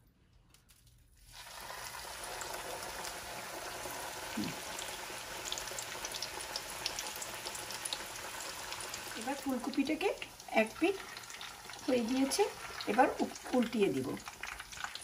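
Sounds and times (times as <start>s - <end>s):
oil sizzling with crackling pops: 0.5s - 15.0s.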